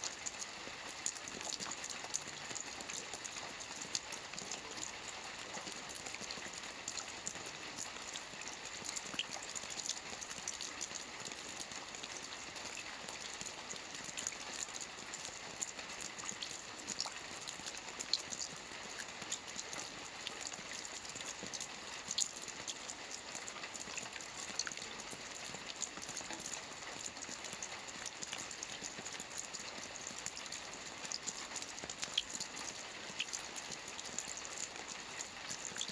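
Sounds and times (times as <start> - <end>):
rain on a roof: 0.0 - 35.9.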